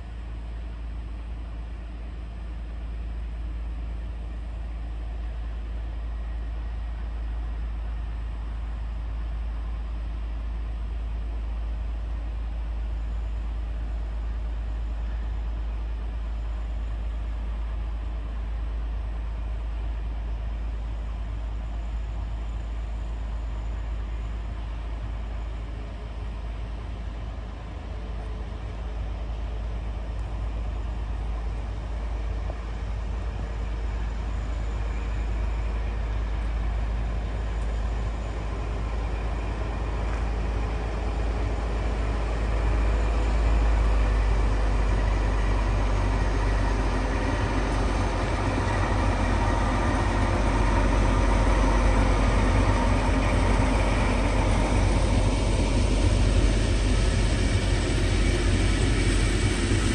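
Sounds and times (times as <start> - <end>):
diesel locomotive rumble: 0.0 - 59.9.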